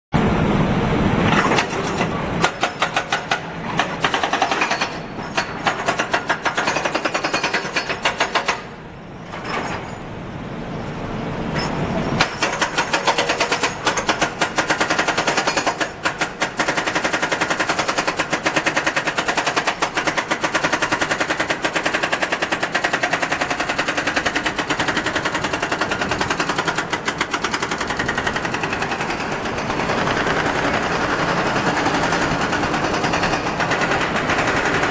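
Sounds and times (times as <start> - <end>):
hydraulic breaker hammering steel: 1.3 - 10.0, 12.2 - 34.9.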